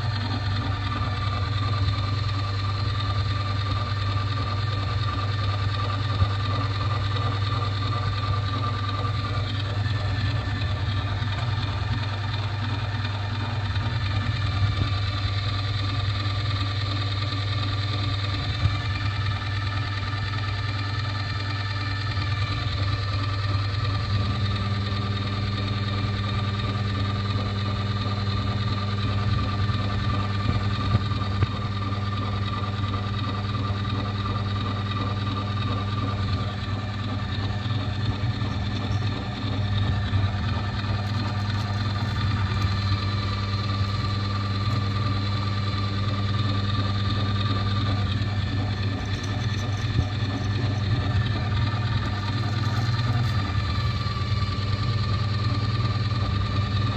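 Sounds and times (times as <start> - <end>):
electric grinder motor humming: 0.0 - 56.9.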